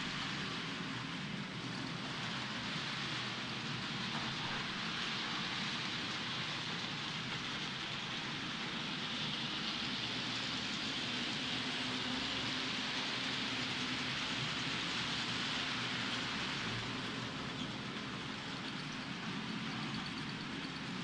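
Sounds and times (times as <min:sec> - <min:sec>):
model train wheels on rails: 0:00.0 - 0:21.0.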